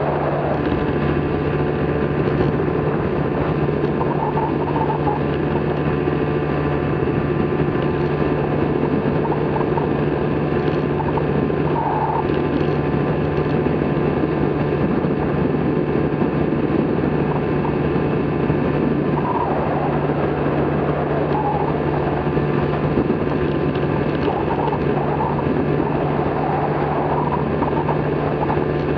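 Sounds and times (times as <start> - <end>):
microlight engine drone: 0.0 - 28.9
wind rushing: 0.0 - 28.9.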